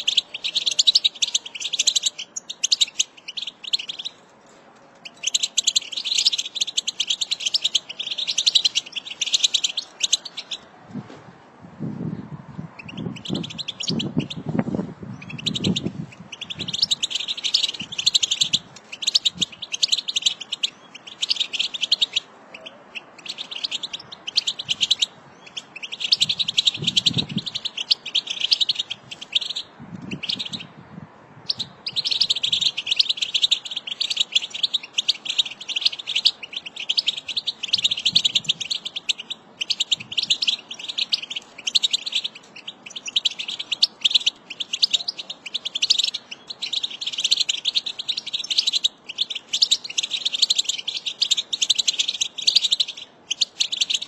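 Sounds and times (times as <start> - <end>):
finch twittering and warbling: 5.0 - 10.6, 12.8 - 14.6, 15.2 - 30.7, 31.5 - 54.0.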